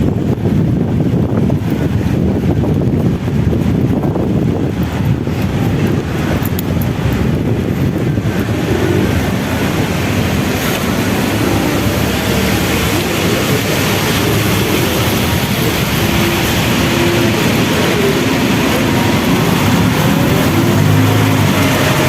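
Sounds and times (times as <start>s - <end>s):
traffic on wet streets: 0.0s - 22.0s
wind on microphone: 0.0s - 22.0s.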